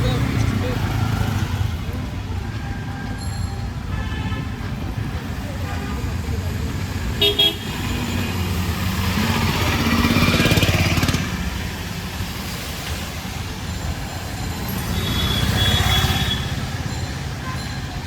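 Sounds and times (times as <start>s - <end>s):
vehicle engines running: 0.0s - 18.0s
vehicles passing: 0.0s - 18.0s.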